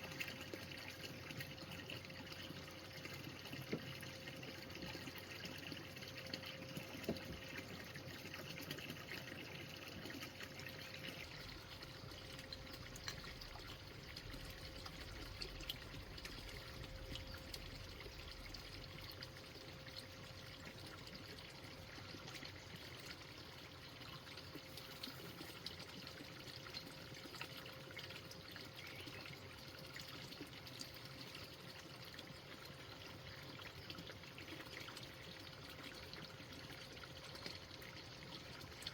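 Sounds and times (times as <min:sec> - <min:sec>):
thin steady hum: 0:00.0 - 0:31.4
water trickling: 0:00.0 - 0:38.9.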